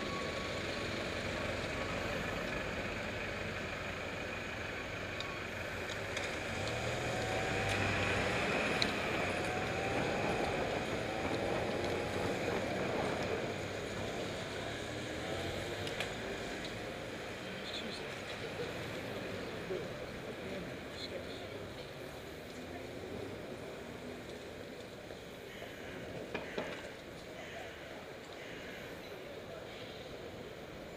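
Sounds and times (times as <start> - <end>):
road traffic: 0.0 - 30.9
vehicle engines idling and accelerating: 0.0 - 30.9.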